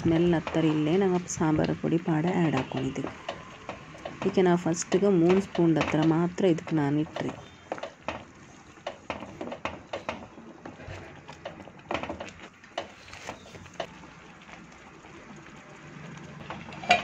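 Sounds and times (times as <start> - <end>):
spatula stirring: 0.0 - 15.3, 16.2 - 17.0
curry simmering with soft pops: 0.0 - 17.0.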